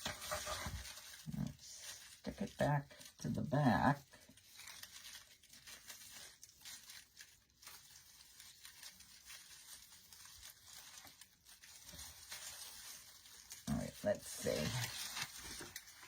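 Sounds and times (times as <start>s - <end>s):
artificial foliage rustling: 0.0s - 16.0s.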